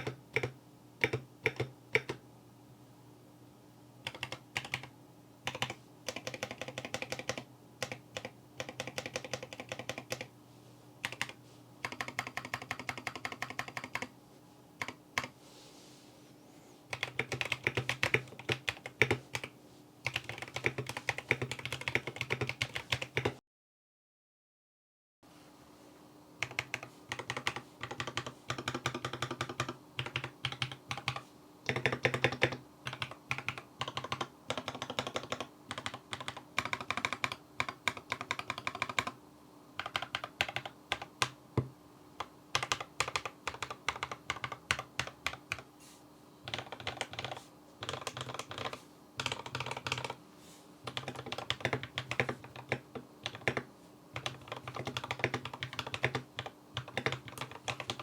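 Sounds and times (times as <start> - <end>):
mechanical keyboard typing: 0.0 - 2.2, 4.0 - 4.9, 5.5 - 10.3, 11.0 - 14.1, 14.8 - 15.3, 16.9 - 23.4, 26.4 - 39.2, 39.8 - 41.4, 42.2 - 45.7, 46.5 - 50.2, 50.9 - 58.0
faint steady hum: 0.0 - 23.4, 25.2 - 58.0.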